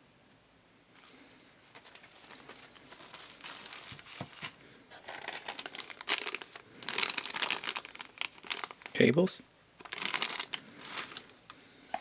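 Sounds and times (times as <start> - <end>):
packaging crinkling: 1.6 - 9.0, 9.8 - 12.0.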